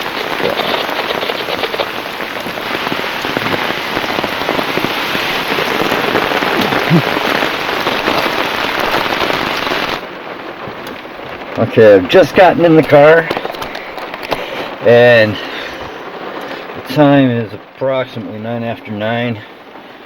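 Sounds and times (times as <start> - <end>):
heavy rain pouring: 0.0 - 20.0
muffled rain patter: 0.0 - 20.0.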